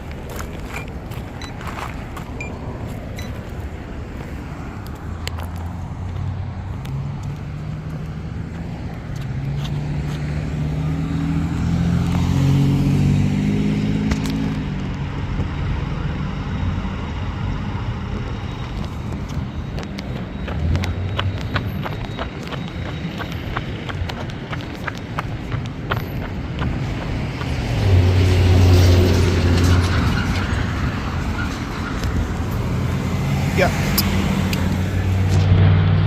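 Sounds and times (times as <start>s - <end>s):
motor vehicle engine running: 0.0s - 36.0s
steady traffic noise: 0.0s - 36.0s.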